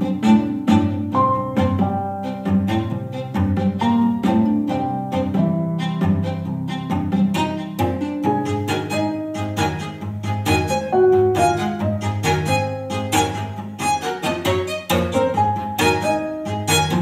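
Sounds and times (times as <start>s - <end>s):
bowed strings: 0.0s - 17.0s
plucked string notes: 0.0s - 17.0s.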